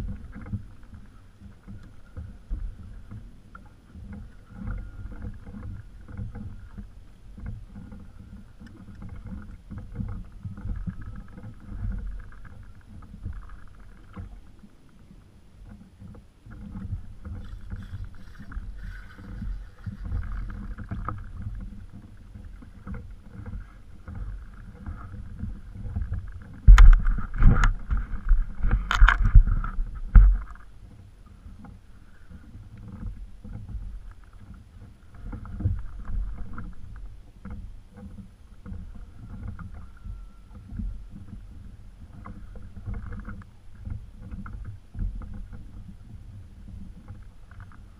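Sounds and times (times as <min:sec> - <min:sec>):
wind on microphone: 0:00.0 - 0:14.4, 0:16.0 - 0:47.9
water against kayak hull: 0:00.0 - 0:47.9.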